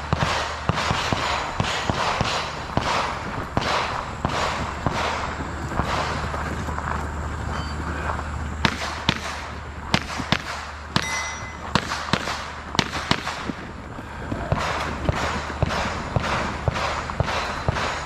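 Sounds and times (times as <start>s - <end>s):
pistol shots: 0.0s - 6.3s, 8.6s - 13.6s, 14.5s - 18.0s.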